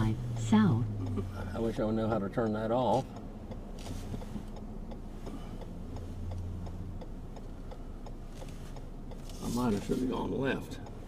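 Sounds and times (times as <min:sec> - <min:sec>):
car engine hum and road noise: 0:00.0 - 0:11.0
turn signal ticking: 0:00.0 - 0:11.0.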